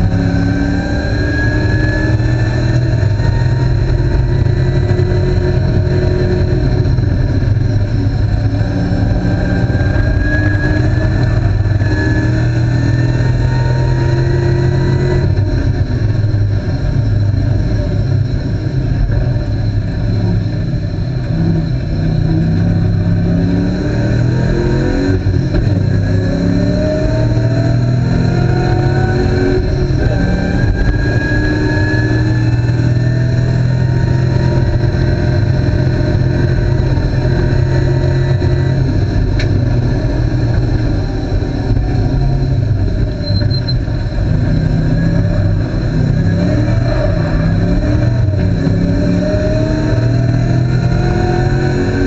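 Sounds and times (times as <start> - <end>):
car engine accelerating hard: 0.0 - 52.0.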